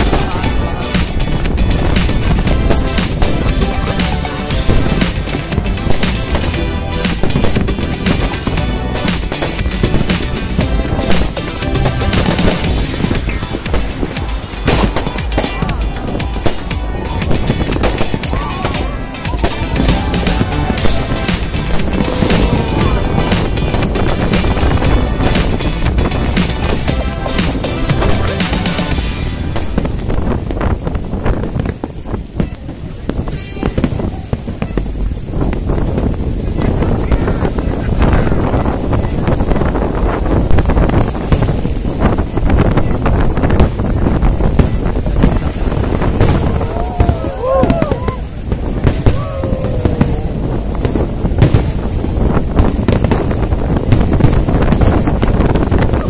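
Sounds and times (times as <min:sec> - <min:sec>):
wind buffeting microphone: 0:00.0 - 0:28.1, 0:28.9 - 0:56.0
fireworks bangs: 0:00.0 - 0:56.0.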